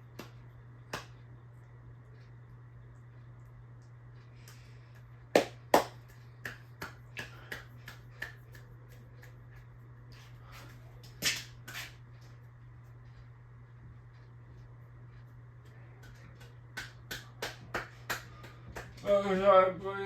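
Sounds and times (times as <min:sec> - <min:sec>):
ceiling fan hum: 0:00.0 - 0:20.0.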